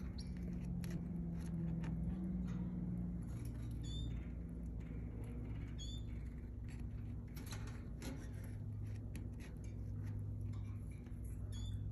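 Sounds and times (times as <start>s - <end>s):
canary chirp: 0.0s - 11.9s
steady low hum: 0.0s - 11.9s.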